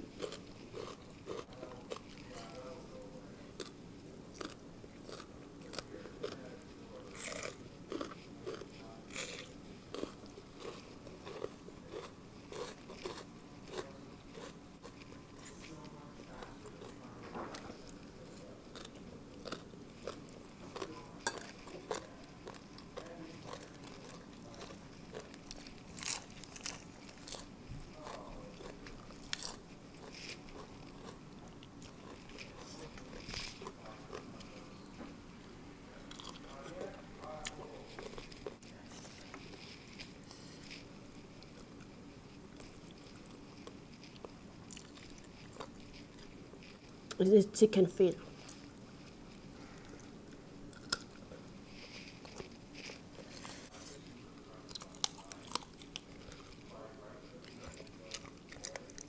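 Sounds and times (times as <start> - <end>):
person chewing and crunching: 0.0 - 47.2, 48.2 - 59.0.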